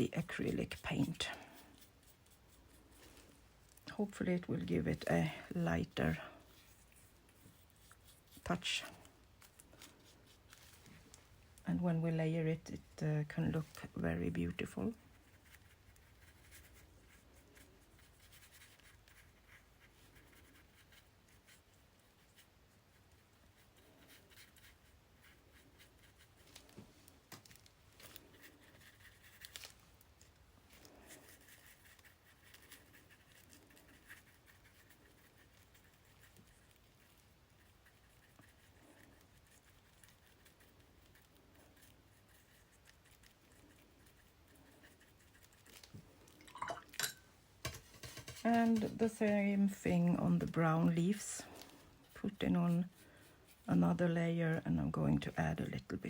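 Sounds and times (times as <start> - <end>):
paintbrush brushing on paper: 0.0 - 46.3, 47.8 - 56.0.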